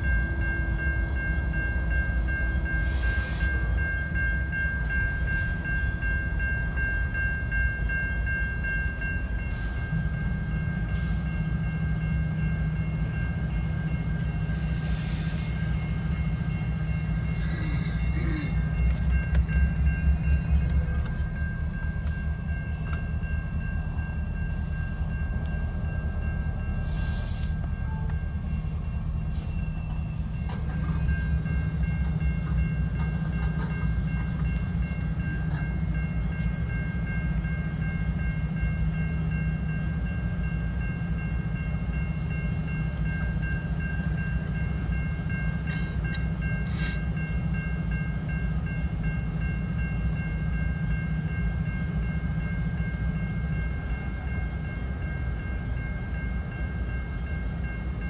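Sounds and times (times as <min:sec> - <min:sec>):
crossing bell ringing: 0:00.0 - 0:58.0
freight train rumble: 0:00.0 - 0:58.0.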